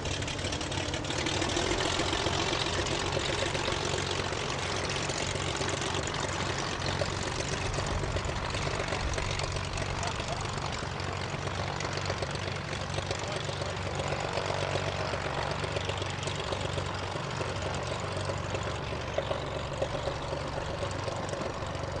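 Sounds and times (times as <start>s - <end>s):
propeller plane engine running: 0.0s - 22.0s.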